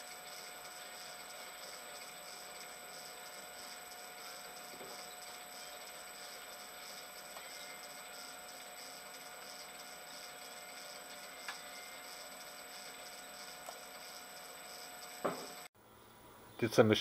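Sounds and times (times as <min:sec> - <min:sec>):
thin constant tones: 0:00.0 - 0:16.9.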